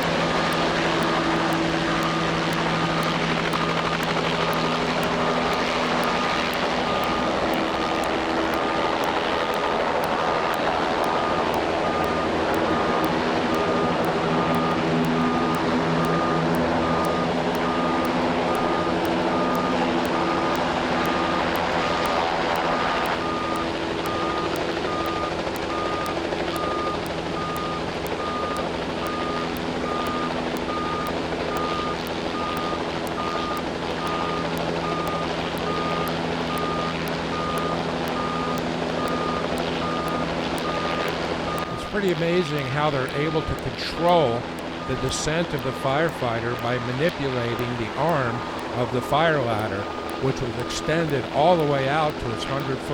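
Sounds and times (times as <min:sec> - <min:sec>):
fire truck engine running: 0:00.0 - 0:52.9
warning beeper: 0:00.0 - 0:52.9.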